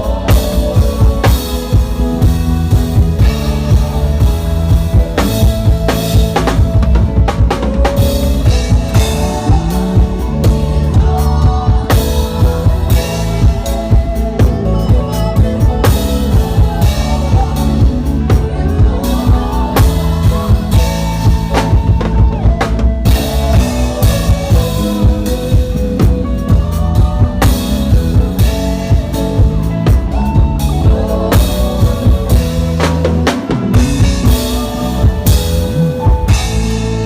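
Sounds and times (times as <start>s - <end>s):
drum kit beat: 0.0s - 37.0s
gospel band playing: 0.0s - 37.0s.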